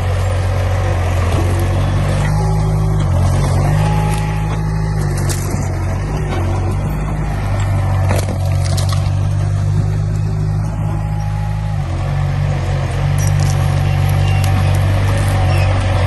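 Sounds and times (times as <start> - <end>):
heavy diesel engine under load: 0.0 - 16.0.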